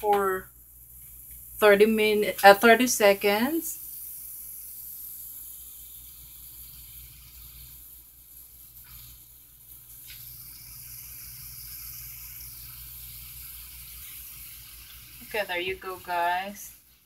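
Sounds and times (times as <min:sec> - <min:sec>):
onion and garlic sizzling in oil: 0:00.0 - 0:17.0.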